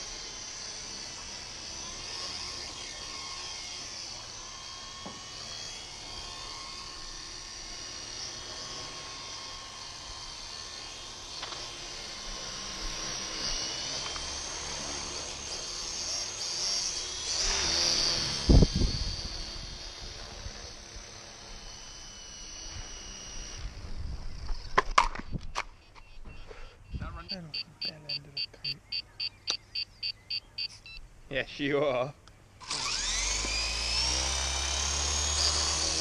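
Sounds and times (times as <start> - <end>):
rc helicopter motor whine: 0.0 - 31.0, 32.5 - 36.0.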